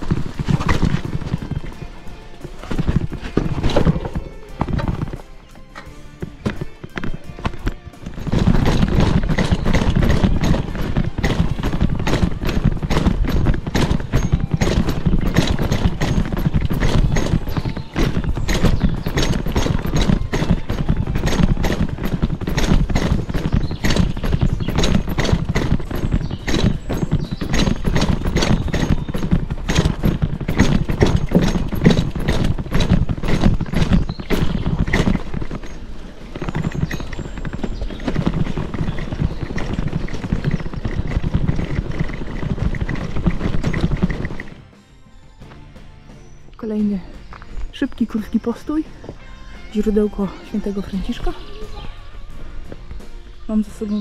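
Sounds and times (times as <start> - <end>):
mountain bike rattling on stony trail: 0.0 - 45.2.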